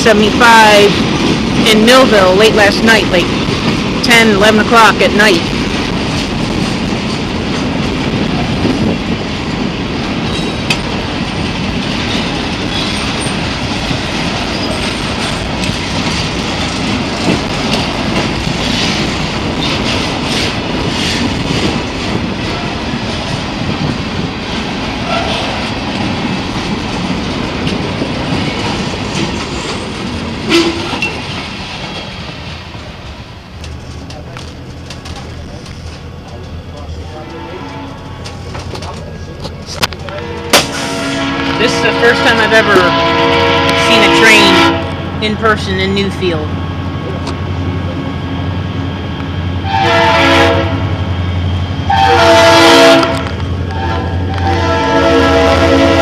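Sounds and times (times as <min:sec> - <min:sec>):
steel wheels rumbling on rail: 0:00.0 - 0:56.0
train cars clicking and clanking: 0:00.0 - 0:56.0.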